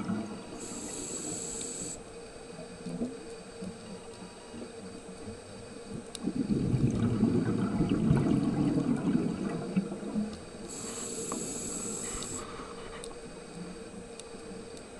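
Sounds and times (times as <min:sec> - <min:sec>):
exhaled bubbles rumbling underwater: 0:00.0 - 0:12.4
faint steady tone: 0:00.0 - 0:14.9.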